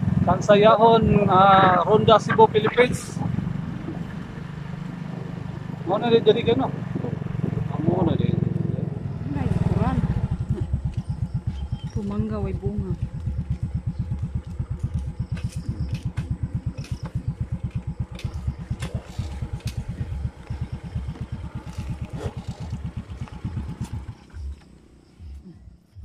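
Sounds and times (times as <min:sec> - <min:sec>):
motorcycle engine puttering: 0:00.0 - 0:26.0.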